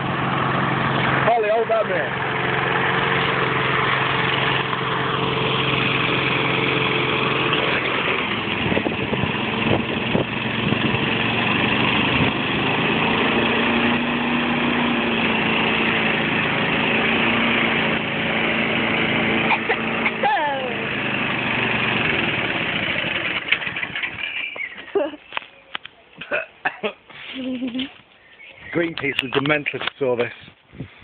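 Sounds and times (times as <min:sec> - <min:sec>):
lawn mower engine running: 0:00.0 - 0:25.8.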